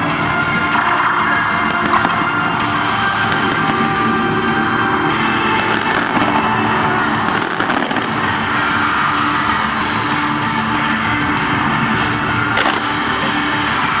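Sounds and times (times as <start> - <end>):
fireworks crackling: 0.0 - 14.0
loud music over sound system: 0.0 - 14.0.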